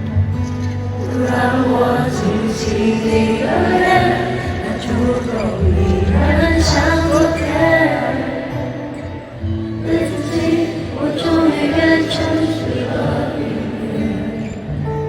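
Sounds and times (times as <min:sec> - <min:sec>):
live pop band with singing: 0:00.0 - 0:15.0.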